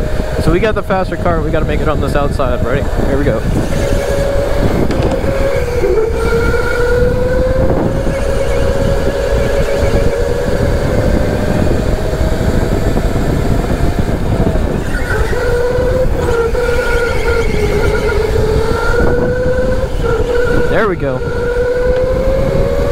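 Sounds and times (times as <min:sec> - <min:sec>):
electric motor whining: 0:00.0 - 0:22.9.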